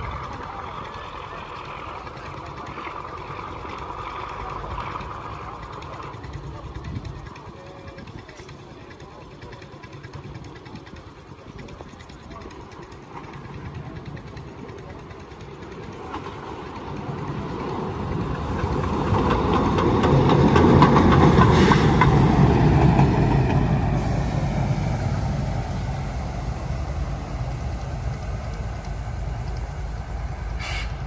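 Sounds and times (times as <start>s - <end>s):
diesel locomotive engine: 0.0s - 31.0s
wheels clicking over rail joints: 0.0s - 31.0s.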